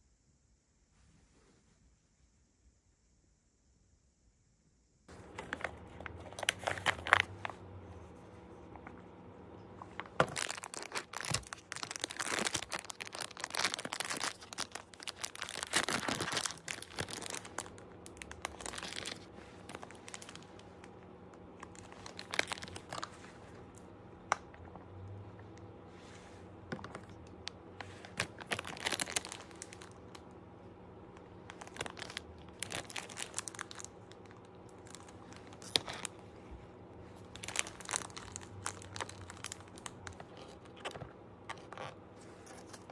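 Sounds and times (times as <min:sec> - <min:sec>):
plastic wrapper crinkling and tearing: 0:05.1 - 0:25.8, 0:26.7 - 0:36.3, 0:37.1 - 0:42.9.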